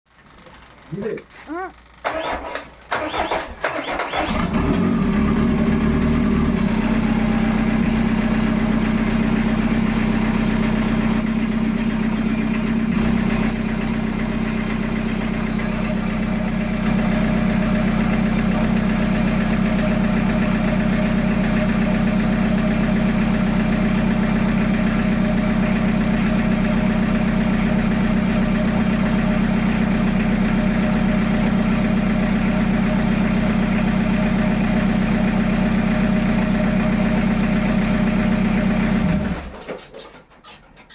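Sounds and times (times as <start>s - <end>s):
diesel engine idling: 0.7s - 39.6s.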